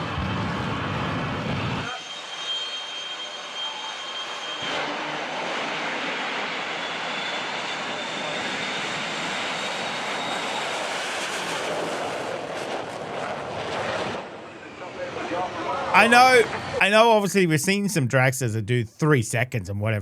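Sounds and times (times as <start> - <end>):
jet engine roaring: 0.0 - 17.2.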